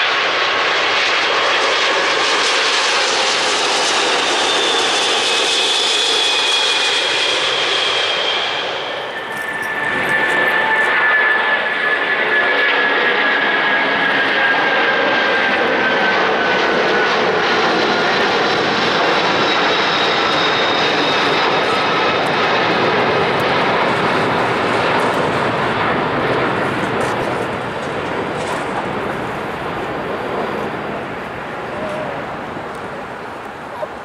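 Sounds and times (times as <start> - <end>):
jet airliner roar and whine: 0.0 - 34.0.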